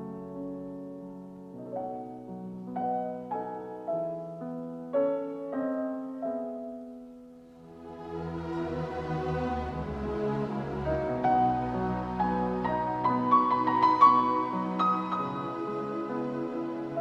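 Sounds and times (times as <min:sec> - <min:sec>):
slow solo piano: 0:00.0 - 0:07.8, 0:10.9 - 0:17.0.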